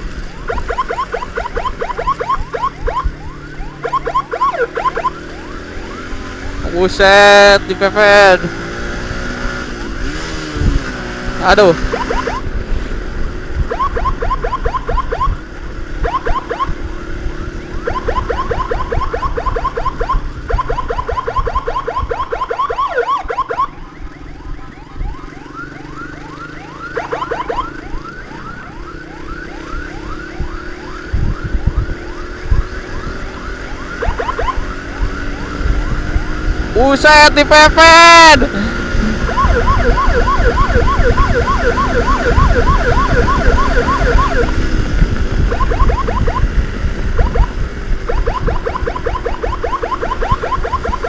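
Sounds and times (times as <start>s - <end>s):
siren rising chirps: 0.0s - 8.4s, 11.4s - 12.5s, 13.5s - 38.4s, 39.0s - 51.0s
steady siren tone: 0.0s - 8.4s, 11.4s - 12.6s, 13.5s - 51.0s
motorcycle engine rumble: 0.0s - 51.0s.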